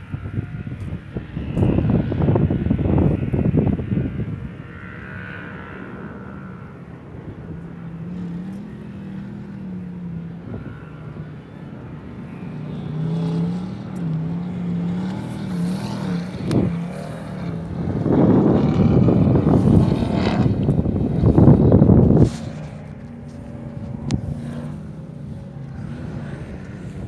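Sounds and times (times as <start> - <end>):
distant engine running: 0.0 - 27.0
wind gusts on microphone: 0.0 - 27.0.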